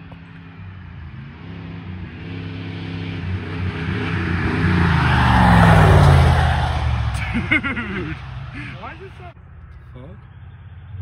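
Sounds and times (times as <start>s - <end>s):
truck open exhaust driving past: 0.6s - 11.0s.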